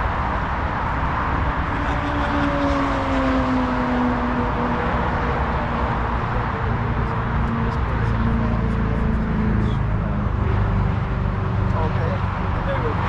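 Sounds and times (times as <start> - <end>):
freeway traffic rumble: 0.0 - 13.0
passing vehicle drone: 0.0 - 13.0.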